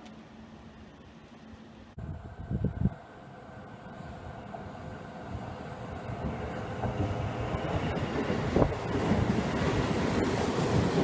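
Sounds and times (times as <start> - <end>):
electric train wheel rumble: 0.0 - 11.0.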